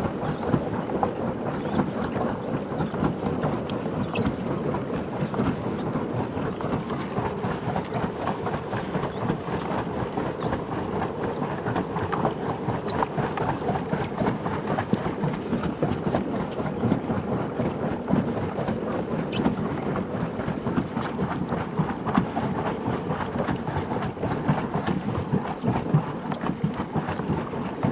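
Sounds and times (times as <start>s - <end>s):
paddle boat rushing: 0.0s - 27.9s.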